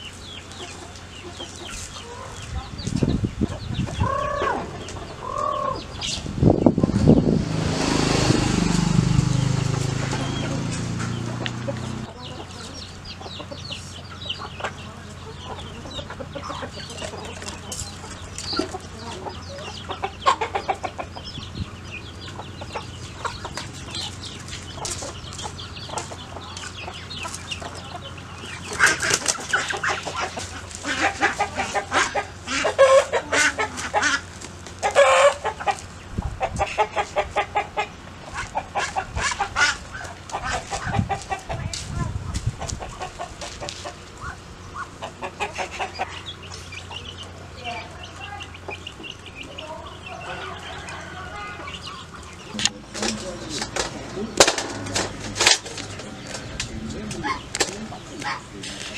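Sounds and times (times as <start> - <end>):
chickens clucking: 0.0 - 58.9.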